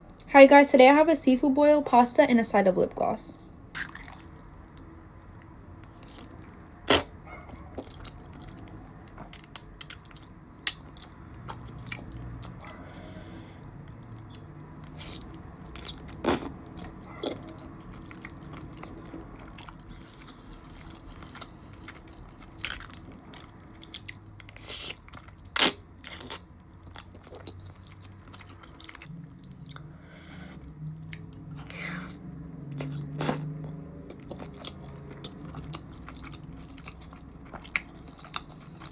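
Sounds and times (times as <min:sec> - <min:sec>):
chewing and biting: 0:03.8 - 0:12.8, 0:13.8 - 0:38.9.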